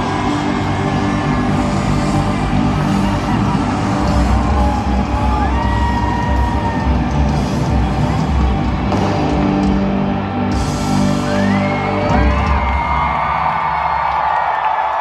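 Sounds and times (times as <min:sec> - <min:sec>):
live pop-rock music: 0:00.0 - 0:14.0.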